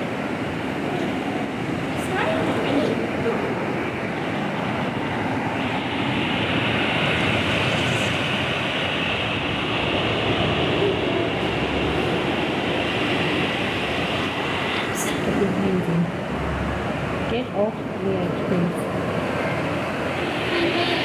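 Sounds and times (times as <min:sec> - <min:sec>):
heavy rain roar: 0:00.0 - 0:21.0.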